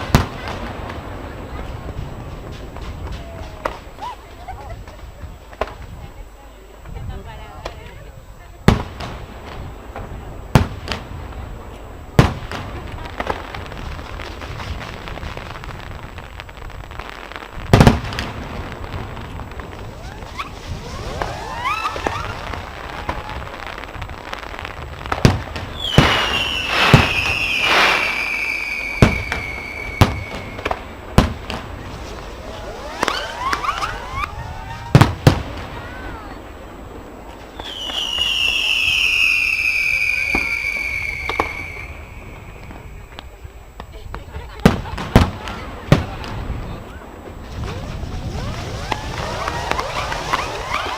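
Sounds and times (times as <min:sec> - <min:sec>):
fireworks pops: 0:00.0 - 0:06.2, 0:06.8 - 0:50.9
fireworks bangs: 0:00.0 - 0:50.9
fireworks crackling: 0:00.0 - 0:50.9.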